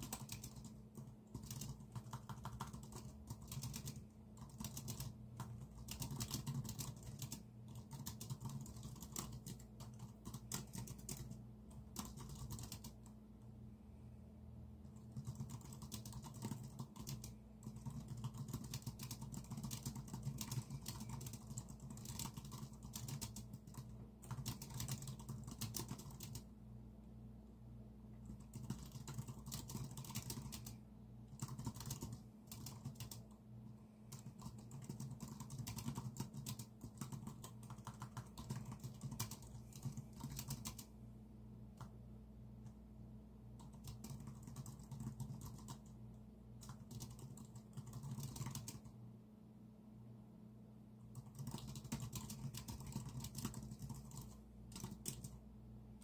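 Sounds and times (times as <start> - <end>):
computer keyboard typing: 0.0 - 13.2, 14.8 - 26.5, 28.2 - 33.4, 34.1 - 41.0, 43.6 - 46.0, 46.6 - 49.0, 51.1 - 55.4
low steady hum: 0.0 - 56.0.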